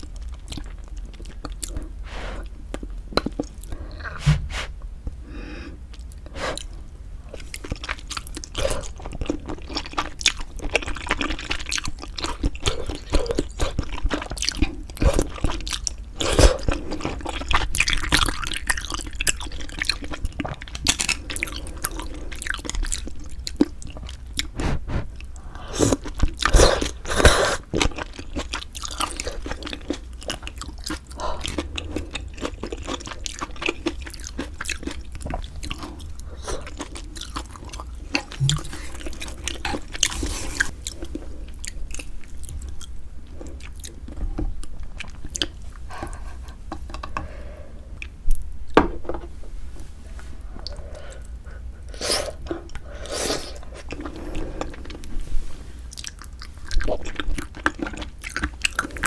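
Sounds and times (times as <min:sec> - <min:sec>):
chewing with wet mouth sounds: 0:00.0 - 0:04.3, 0:05.8 - 0:48.6, 0:50.5 - 0:55.2, 0:55.8 - 0:59.0.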